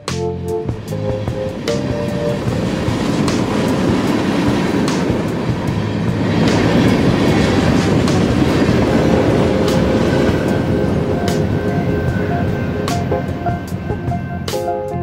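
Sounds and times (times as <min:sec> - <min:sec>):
steel wheels rumbling on rail: 0:00.0 - 0:15.0
wheels clacking over rail joint: 0:00.8 - 0:14.6.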